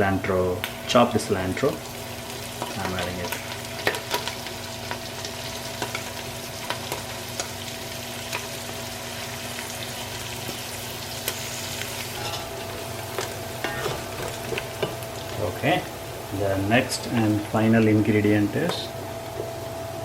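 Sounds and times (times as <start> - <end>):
masala sizzling in hot oil: 0.2 - 20.0.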